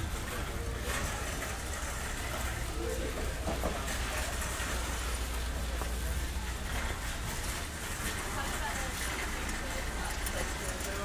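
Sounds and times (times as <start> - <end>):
faint indistinct voices: 0.0 - 11.0.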